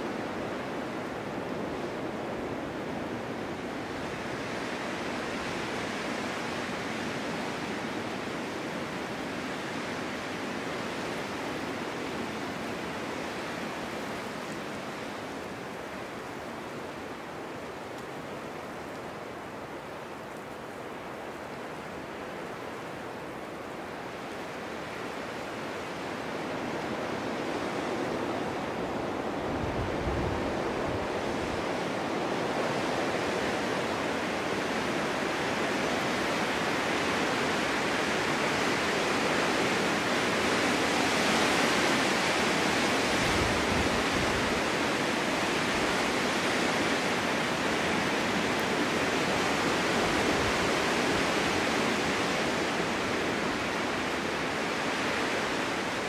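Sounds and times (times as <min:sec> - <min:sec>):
strong winter wind blowing: 0:00.0 - 0:56.0.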